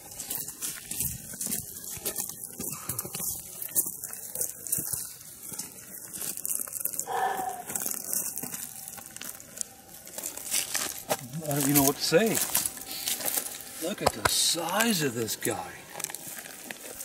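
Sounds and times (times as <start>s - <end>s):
dry brush rustling and crackling: 0.0s - 17.0s
footsteps on dry ground: 0.0s - 17.0s.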